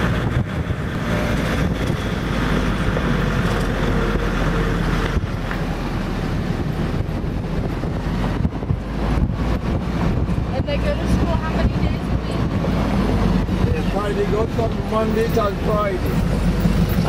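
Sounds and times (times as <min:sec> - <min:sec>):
wind across microphone: 0:00.0 - 0:14.8
car engine and road noise: 0:00.0 - 0:17.0.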